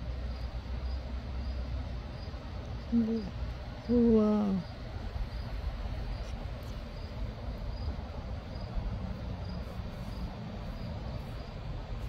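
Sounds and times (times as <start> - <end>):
cricket chirping: 0.0 - 12.0
low outdoor rumble: 0.0 - 12.0.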